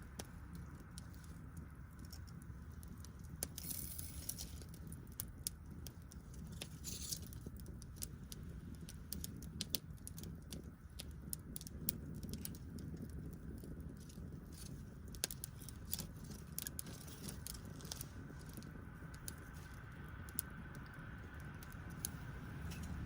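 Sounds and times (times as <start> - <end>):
fire hissing: 0.0 - 23.0
wood fire crackling and popping: 0.0 - 23.0.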